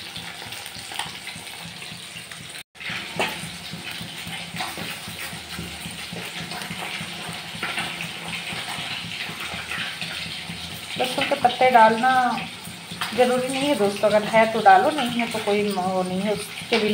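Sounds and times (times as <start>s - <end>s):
fish sizzling in hot oil: 0.0s - 16.9s.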